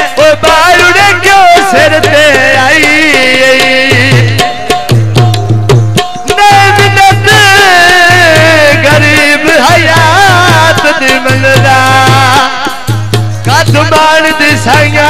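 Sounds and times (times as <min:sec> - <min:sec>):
repeating drum beat: 0:00.0 - 0:15.0.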